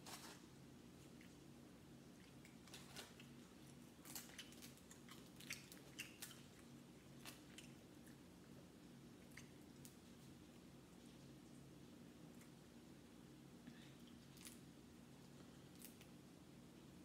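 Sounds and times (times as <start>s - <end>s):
soft chewing: 0.0s - 16.9s
steady low hum: 0.0s - 17.0s.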